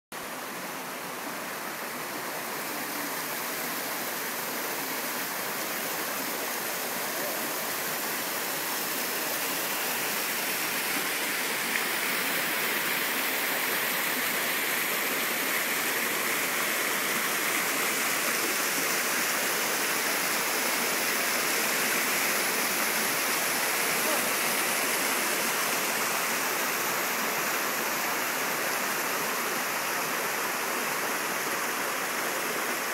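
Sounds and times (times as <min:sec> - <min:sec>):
river water rushing: 0:00.2 - 0:32.9.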